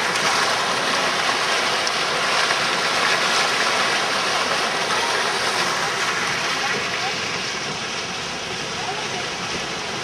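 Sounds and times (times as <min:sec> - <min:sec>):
floodwater rushing and splashing: 0:00.0 - 0:10.0.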